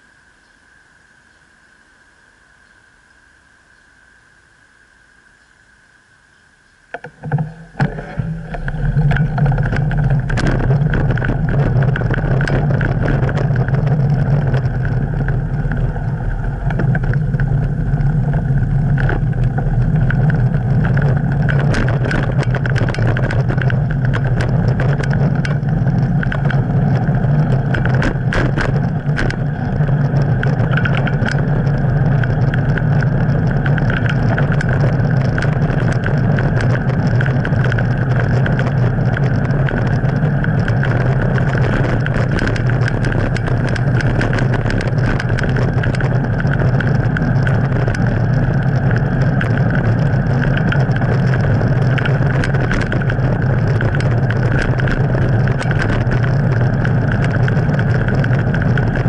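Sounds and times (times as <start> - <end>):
bicycle riding noise: 6.8 - 59.0
street traffic rumble: 6.8 - 59.0
small clicks and rattles: 6.9 - 59.0.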